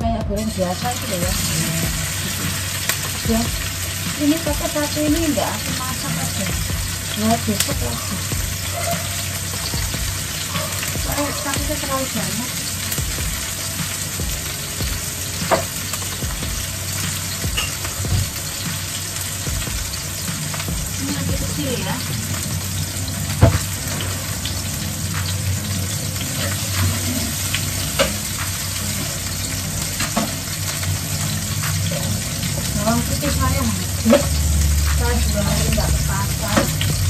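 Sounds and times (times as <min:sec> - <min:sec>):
food sizzling in oil: 0:00.4 - 0:37.0.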